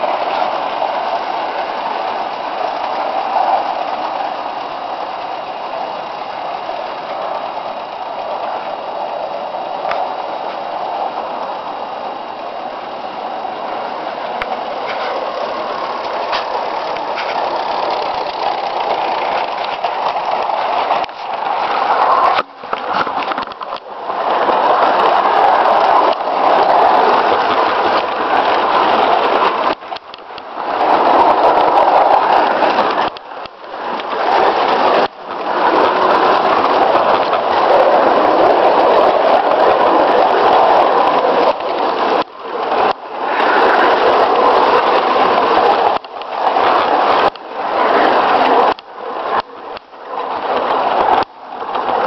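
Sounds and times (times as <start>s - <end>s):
steam locomotive exhaust: 0.0s - 52.0s
train wheels rattling on track: 0.0s - 52.0s.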